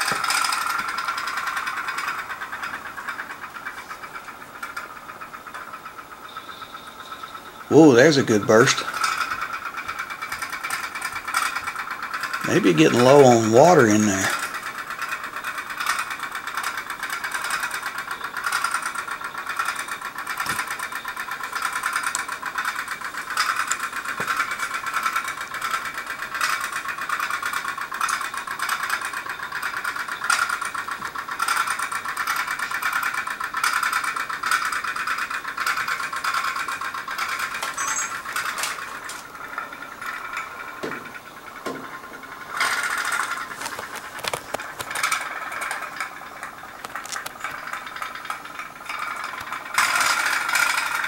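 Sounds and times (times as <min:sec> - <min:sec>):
toy steam boat putt-putt: 0:00.0 - 0:51.0.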